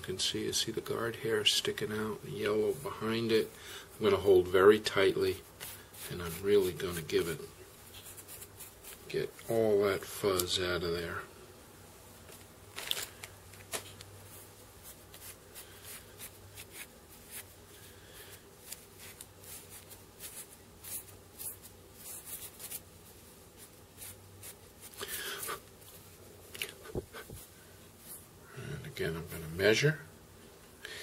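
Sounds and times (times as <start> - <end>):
steady low hum: 0.0 - 31.0
hair being combed: 1.7 - 10.8, 12.2 - 28.3.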